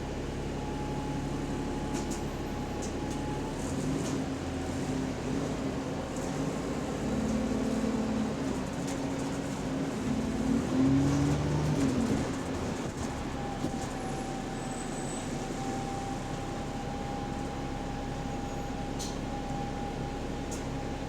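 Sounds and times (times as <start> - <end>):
bus engine and transmission hum: 0.0 - 21.0.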